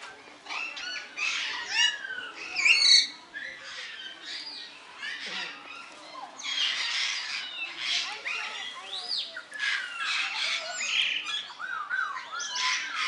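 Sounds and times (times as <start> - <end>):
birds squawking and chirping: 0.2 - 13.0.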